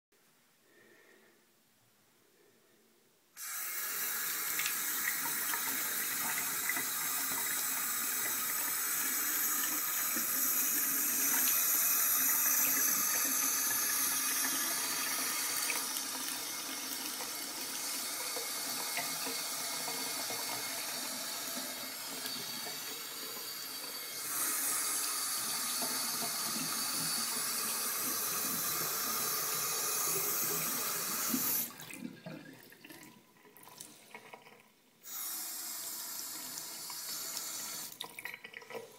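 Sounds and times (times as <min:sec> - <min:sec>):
water pouring from faucet into sink: 0:03.4 - 0:38.9.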